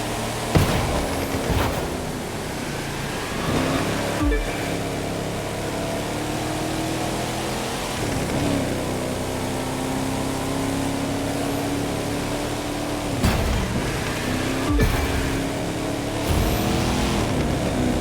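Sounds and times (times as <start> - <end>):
car engine under load: 0.0 - 18.0.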